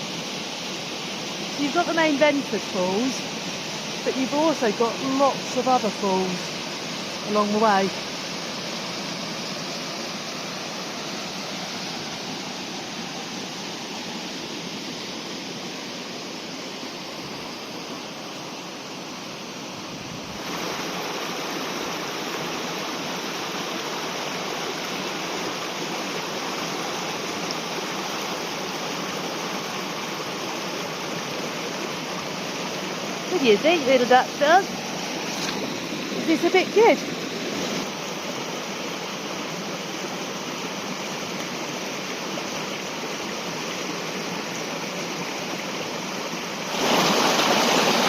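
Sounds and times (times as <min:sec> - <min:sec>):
water rushing over waterfalls: 0:00.0 - 0:48.0.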